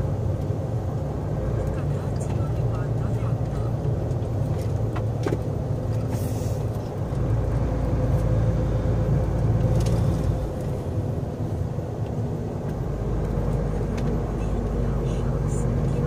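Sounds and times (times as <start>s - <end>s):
large vehicle engine running: 0.0s - 16.0s
tyre and road rumble: 0.0s - 16.0s.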